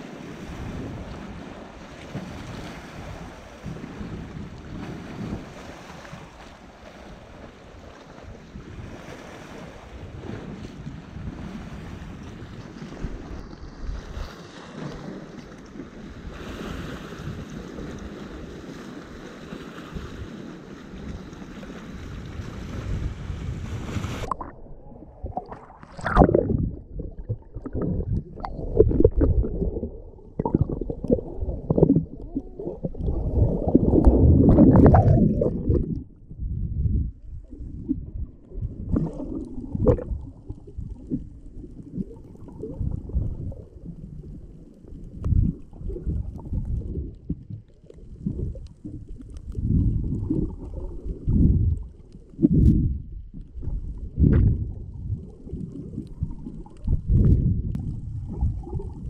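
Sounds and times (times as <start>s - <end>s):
muffled underwater sloshing: 0.0s - 59.0s.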